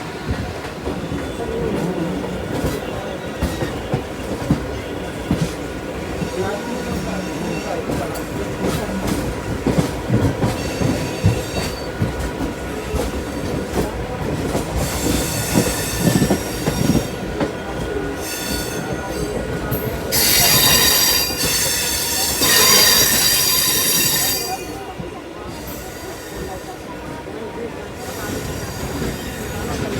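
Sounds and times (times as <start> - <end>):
train rumble: 0.0 - 29.9
train wheels squealing: 0.8 - 8.8, 10.2 - 13.2, 14.8 - 26.9, 28.0 - 29.9.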